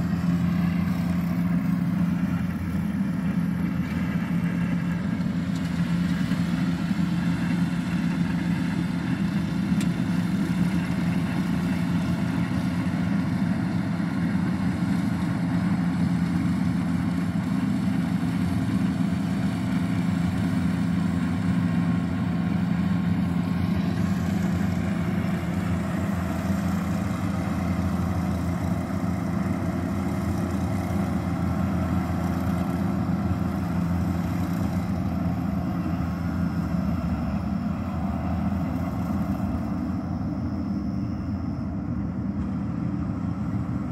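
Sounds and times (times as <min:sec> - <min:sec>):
combine harvester engine humming: 0:00.0 - 0:43.9.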